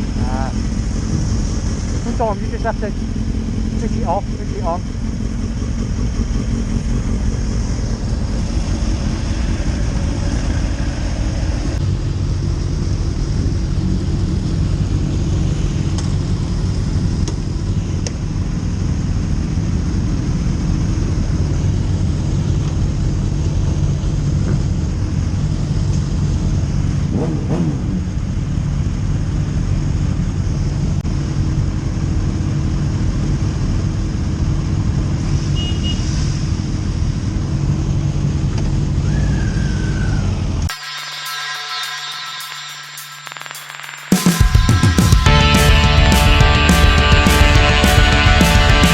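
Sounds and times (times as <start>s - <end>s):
motorcycle engines rumbling: 0.0s - 40.7s, 44.8s - 48.9s.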